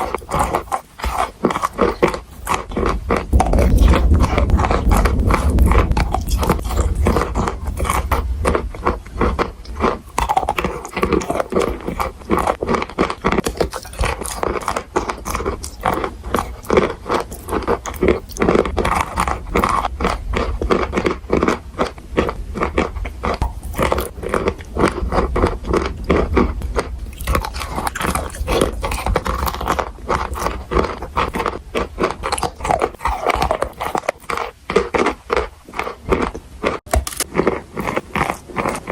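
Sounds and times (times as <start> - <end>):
person chewing crunchy chalk: 0.0 - 38.9.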